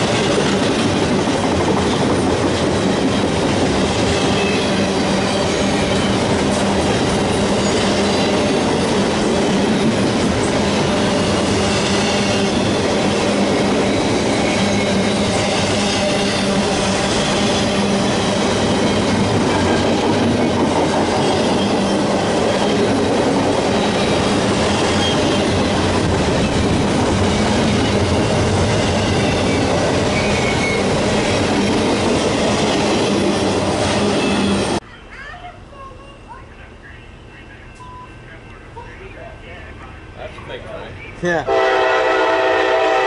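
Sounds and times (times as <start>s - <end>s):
train cars rumbling on rails: 0.0s - 34.8s, 37.1s - 43.0s.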